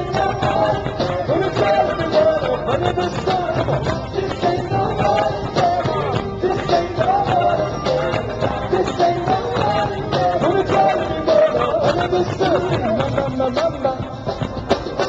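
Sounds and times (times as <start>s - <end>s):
live pop-rock band music: 0.0s - 15.0s.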